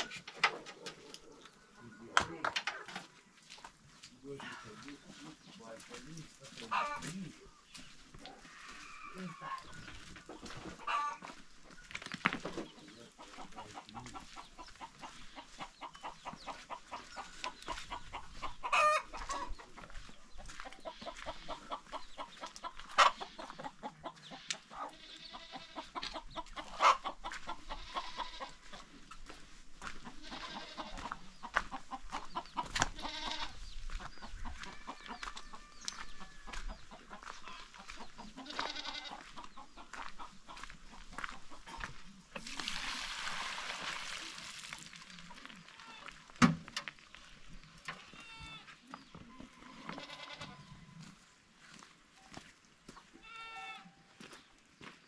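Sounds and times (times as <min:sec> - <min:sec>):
chickens clucking: 0:00.0 - 0:43.0, 0:43.8 - 0:55.0
footsteps on stony ground: 0:00.0 - 0:43.2, 0:43.8 - 0:55.0.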